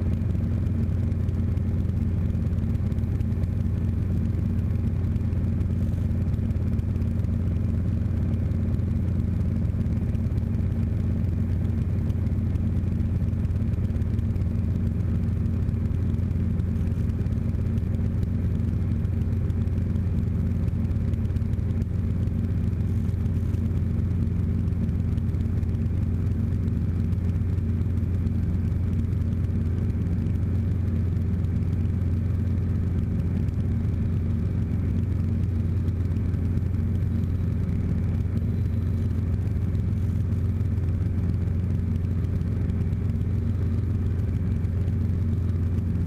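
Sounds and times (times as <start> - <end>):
helicopter engine and rotor droning: 0.0 - 46.0.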